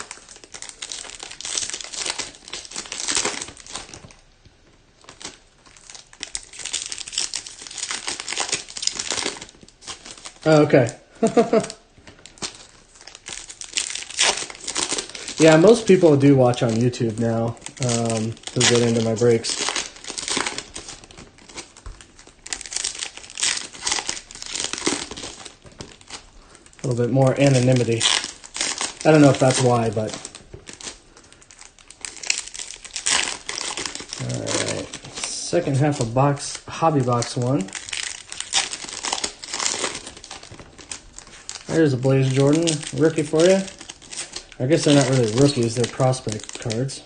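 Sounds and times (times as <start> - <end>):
crinkling card pack wrappers: 0.0 - 47.0.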